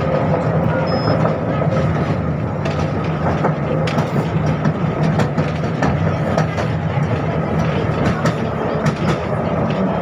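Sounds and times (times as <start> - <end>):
tram wheels rumbling on rails: 0.0 - 10.0.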